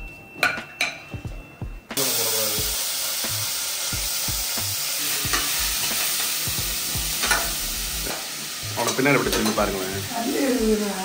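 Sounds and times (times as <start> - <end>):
oil sizzling in a pan: 2.0 - 11.0.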